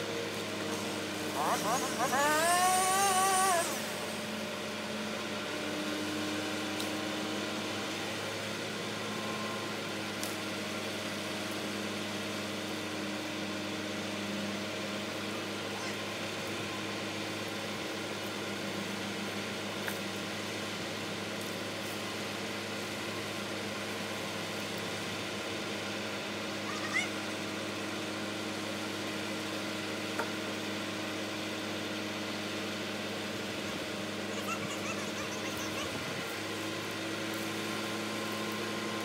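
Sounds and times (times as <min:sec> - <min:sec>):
crane engine humming: 0:00.0 - 0:39.0.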